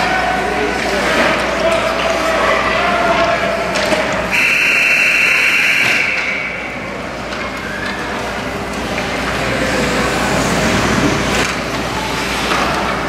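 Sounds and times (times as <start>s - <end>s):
spectator chatter: 0.0s - 13.0s.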